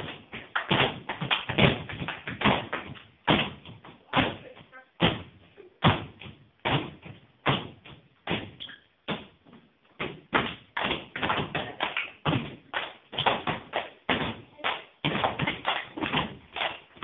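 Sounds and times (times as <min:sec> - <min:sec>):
children's feet stamping on floor: 0:00.0 - 0:17.0.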